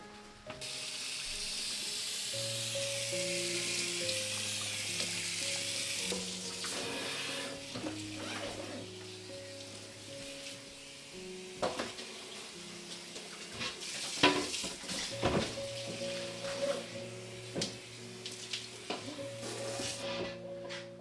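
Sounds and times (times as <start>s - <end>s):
soft piano music: 0.0s - 21.0s
tap water running and splashing: 0.5s - 20.0s.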